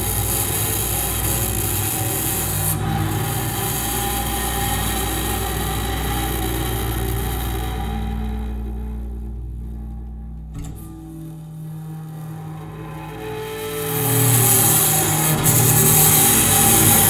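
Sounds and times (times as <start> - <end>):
bowed double bass drone: 0.0 - 17.0.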